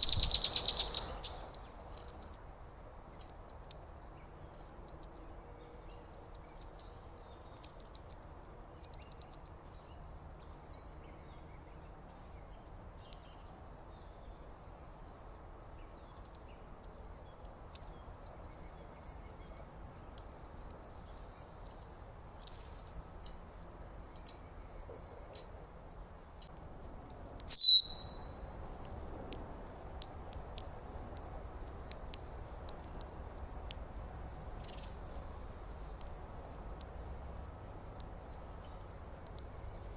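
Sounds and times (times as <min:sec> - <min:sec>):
small birds chirping faintly: 0:00.0 - 0:39.9
steady low background noise: 0:00.0 - 0:39.9.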